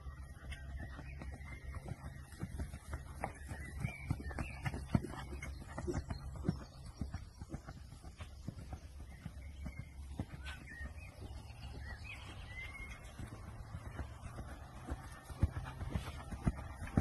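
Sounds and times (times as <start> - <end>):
bird chirping: 0.0 - 17.0
hooves thudding on sand: 0.0 - 17.0.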